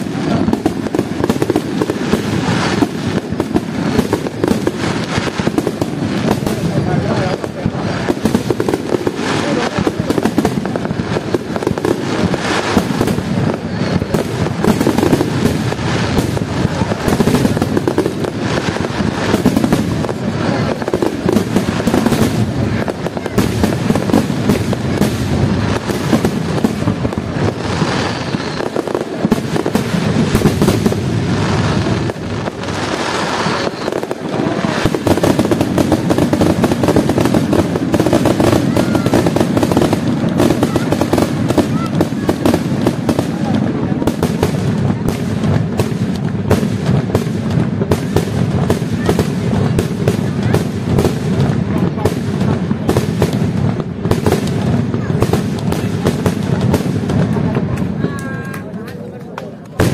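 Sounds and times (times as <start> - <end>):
continuous rumble: 0.0 - 59.9
fireworks bursting: 0.0 - 59.9.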